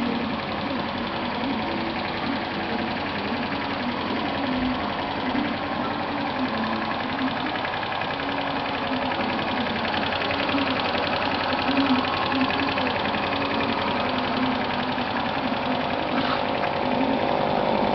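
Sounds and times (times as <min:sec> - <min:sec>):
moped engine running: 0:00.0 - 0:17.9.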